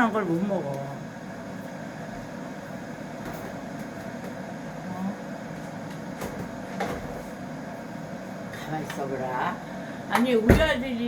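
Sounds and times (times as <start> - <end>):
low indoor hum: 0.0 - 11.0.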